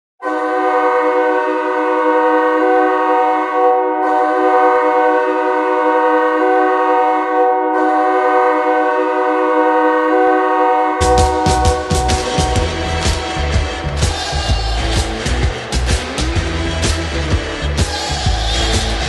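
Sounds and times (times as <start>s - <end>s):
goal horn air-horn chord: 0.2s - 19.0s.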